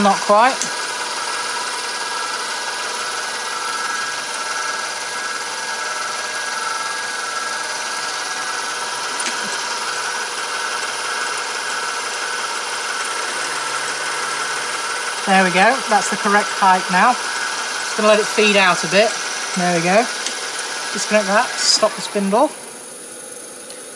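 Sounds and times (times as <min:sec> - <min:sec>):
milling machine whine: 0:00.0 - 0:23.9.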